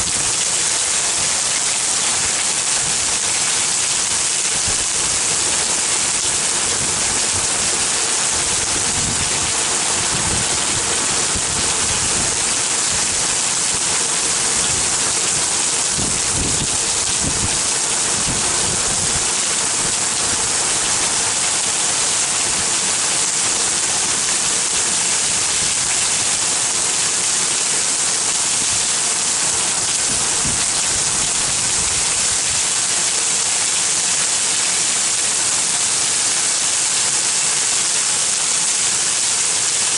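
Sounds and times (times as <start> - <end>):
heavy rain hiss: 0.0 - 39.9
water streaming down window: 0.0 - 39.9.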